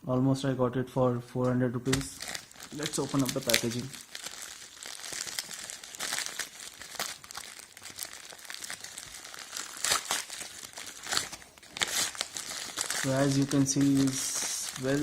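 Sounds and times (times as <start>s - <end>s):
packaging rustling and crinkling: 1.8s - 15.0s.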